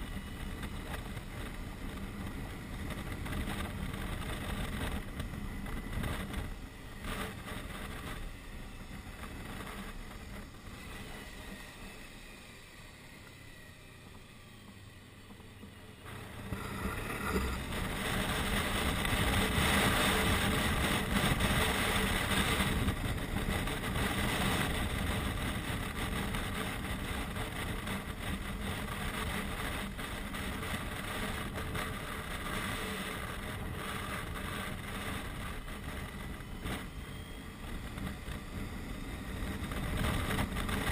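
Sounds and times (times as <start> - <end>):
wind rushing over microphone: 0.0 - 12.4, 16.0 - 40.9
motorcycle engine running: 0.0 - 40.9.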